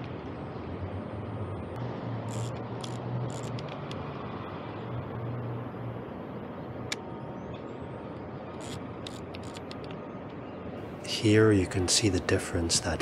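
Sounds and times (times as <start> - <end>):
city traffic hum: 0.0 - 13.0.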